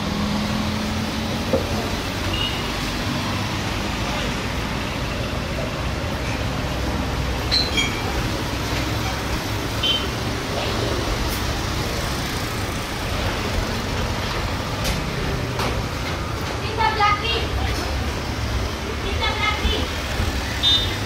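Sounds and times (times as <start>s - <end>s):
airport noise: 0.0s - 21.0s.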